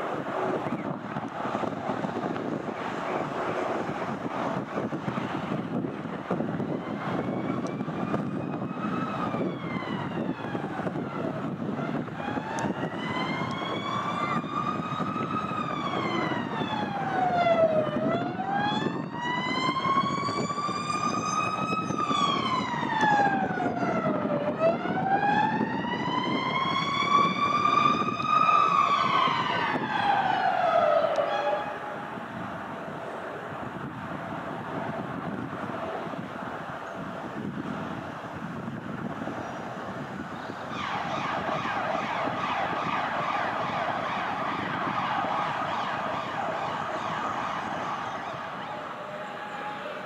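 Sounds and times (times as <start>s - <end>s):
emergency siren wailing: 0.0s - 50.0s.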